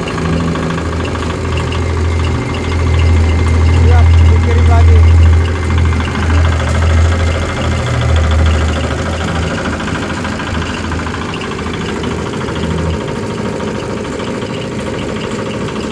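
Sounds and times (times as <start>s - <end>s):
low hum: 0.0s - 15.8s
machine engine drone: 0.0s - 15.9s.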